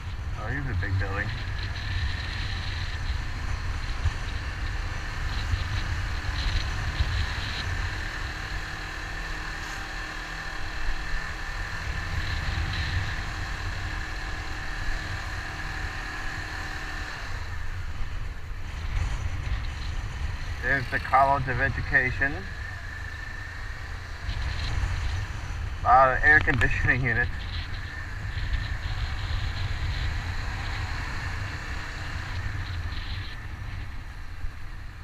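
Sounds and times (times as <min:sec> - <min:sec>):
motorcycle engine running: 0:00.0 - 0:35.0
wind rumble on microphone: 0:00.0 - 0:35.0.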